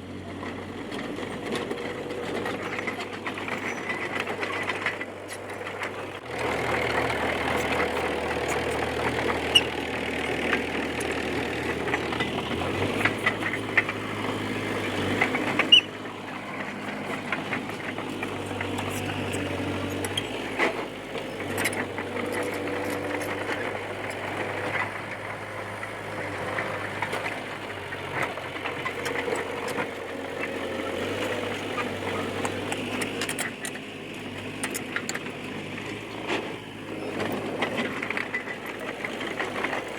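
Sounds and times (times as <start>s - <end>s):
bulldozer diesel engine: 0.0s - 39.9s
tracks clanking and squeaking: 0.1s - 39.9s.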